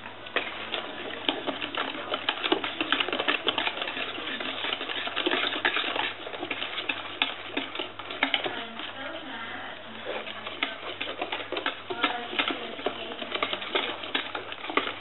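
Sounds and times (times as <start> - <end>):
whisk clattering in plastic bowl: 0.3 - 9.2, 9.9 - 15.0.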